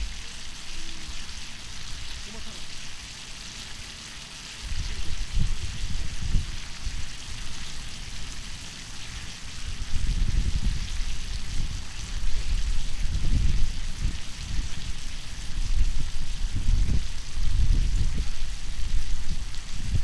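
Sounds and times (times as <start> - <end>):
meat sizzling on a griddle: 0.0 - 20.0.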